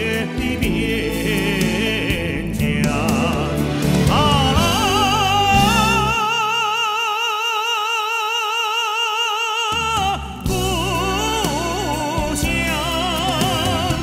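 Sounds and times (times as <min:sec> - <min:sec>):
background song: 0:00.0 - 0:14.0
person singing with vibrato: 0:00.0 - 0:14.0.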